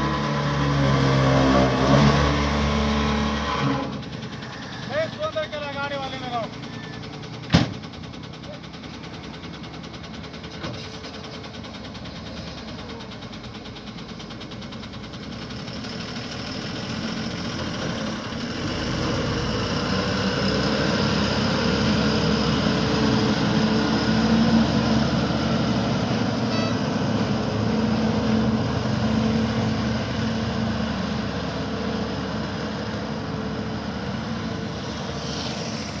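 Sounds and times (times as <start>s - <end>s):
truck diesel engine passing: 0.0s - 36.0s.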